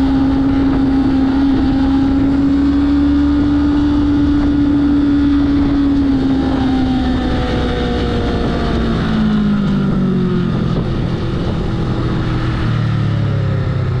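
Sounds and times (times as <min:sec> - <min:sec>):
motorcycle engine slowing: 0:00.0 - 0:14.0
wind noise on microphone: 0:00.0 - 0:14.0.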